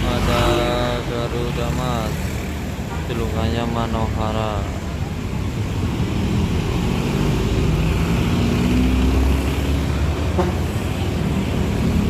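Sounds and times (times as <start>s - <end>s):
bus diesel engine rumble: 0.0s - 12.0s
traffic noise: 0.0s - 12.0s.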